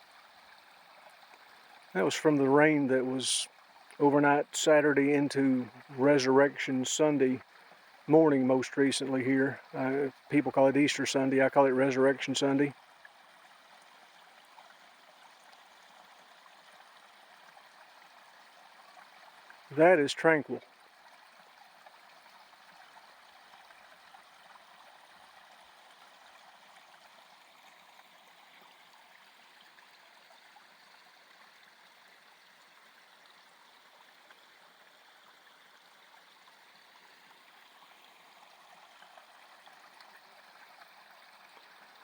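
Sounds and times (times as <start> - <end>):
stream trickling over rocks: 0.0 - 42.0.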